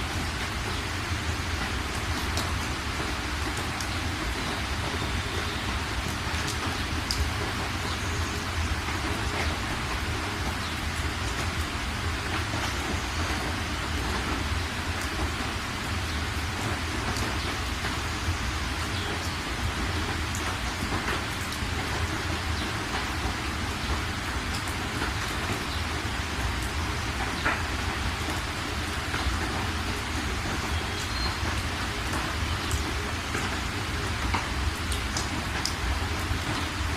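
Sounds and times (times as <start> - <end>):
rain drop ticks: 0.0 - 36.9
steady rain falling: 0.0 - 36.9.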